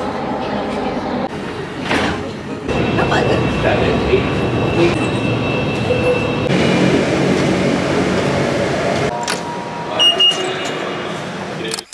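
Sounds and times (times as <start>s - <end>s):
metro train cabin rumble: 0.0s - 9.9s
station ambience: 0.0s - 11.9s.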